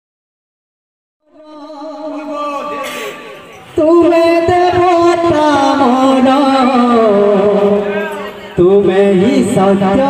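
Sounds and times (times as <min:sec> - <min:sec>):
devotional kirtan music: 0:01.2 - 0:10.0.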